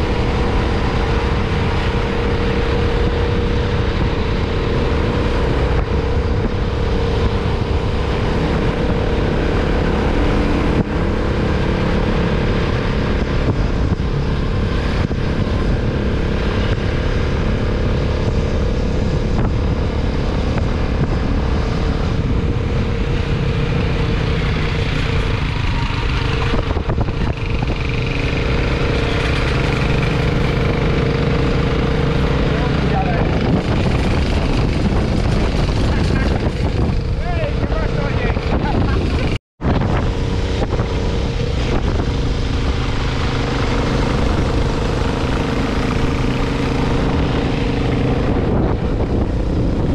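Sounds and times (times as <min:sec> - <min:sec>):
vehicle engine droning: 0:00.0 - 0:49.9.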